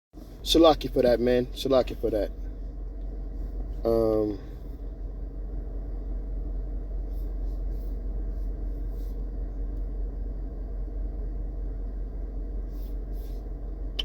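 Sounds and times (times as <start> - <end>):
deep constant hum: 0.2 - 14.0
steady low rumble: 0.2 - 14.0.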